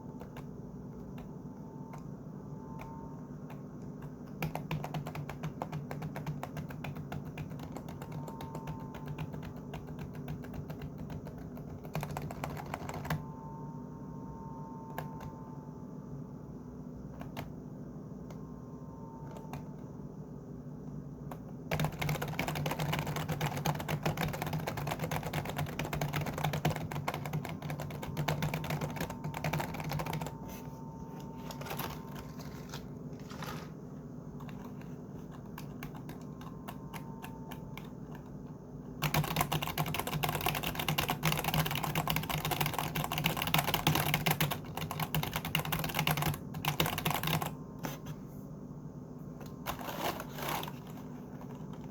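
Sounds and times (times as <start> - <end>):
computer keyboard typing: 0.0 - 2.1, 2.7 - 13.4, 17.1 - 17.6, 19.2 - 19.8, 21.3 - 48.1, 49.4 - 51.9.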